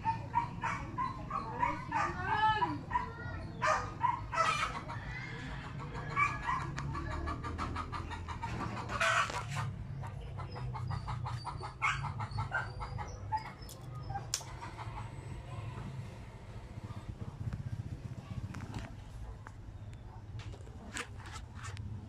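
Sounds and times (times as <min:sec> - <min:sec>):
chickens clucking: 0:00.0 - 0:21.1.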